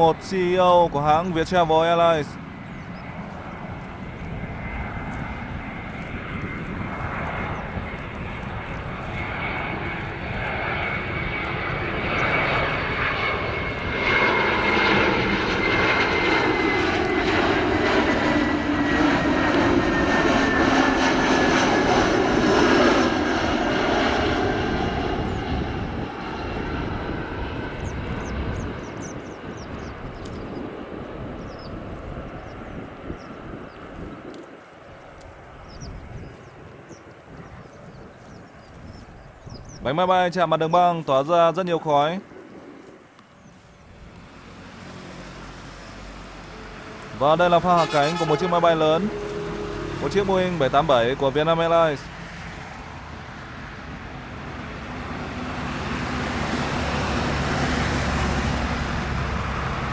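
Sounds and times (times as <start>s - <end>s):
airliner passing overhead: 0.0s - 59.9s
high jet engine whine: 0.0s - 59.9s.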